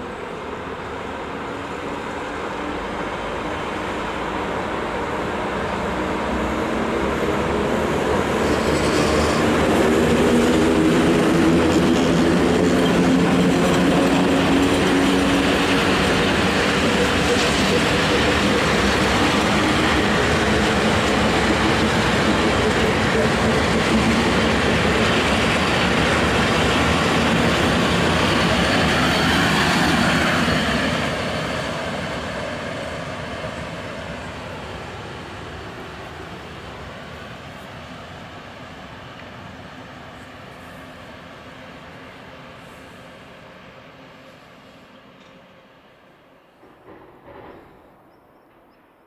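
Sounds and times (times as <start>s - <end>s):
electric locomotives passing: 0.0s - 49.0s
rumble of train wheels: 0.0s - 49.0s.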